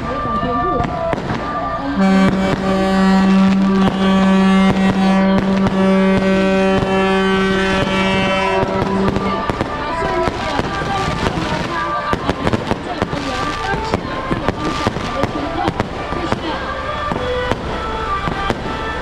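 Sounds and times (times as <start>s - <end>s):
firecrackers popping and crackling: 0.0s - 19.0s
loud droning tone: 0.0s - 19.0s.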